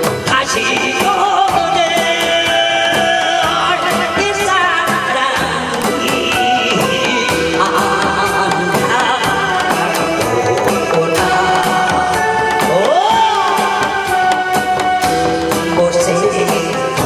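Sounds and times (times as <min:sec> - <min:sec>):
person singing through microphone: 0:00.0 - 0:15.0, 0:15.6 - 0:17.0
drum strikes: 0:00.0 - 0:17.0.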